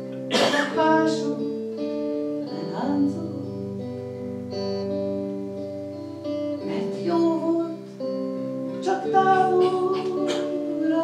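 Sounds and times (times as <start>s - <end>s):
clean electric guitar chords: 0.0s - 11.0s.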